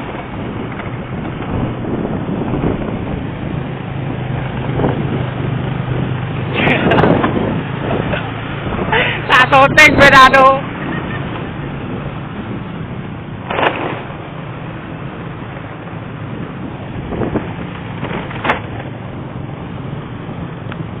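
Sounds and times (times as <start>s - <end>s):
vehicle road noise: 0.0s - 21.0s.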